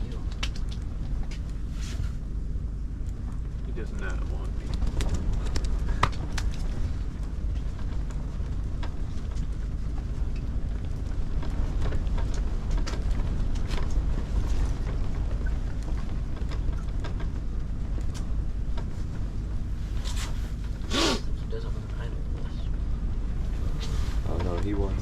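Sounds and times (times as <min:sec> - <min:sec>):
strong wind rumbling: 0:00.0 - 0:25.0.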